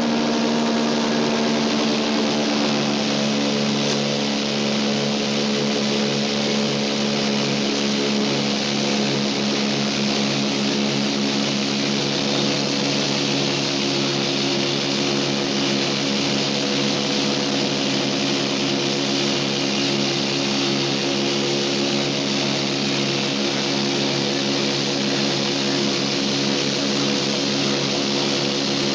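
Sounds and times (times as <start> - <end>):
propeller plane engines droning: 0.0 - 28.9.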